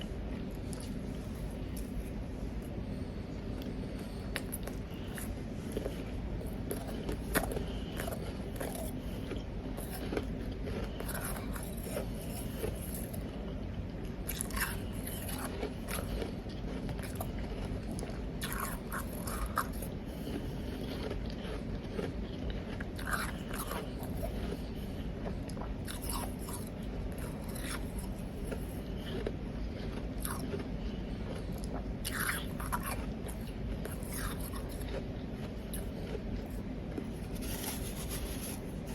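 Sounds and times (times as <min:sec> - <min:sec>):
ice being chewed: 0:00.0 - 0:38.9
low background hum: 0:00.0 - 0:38.9.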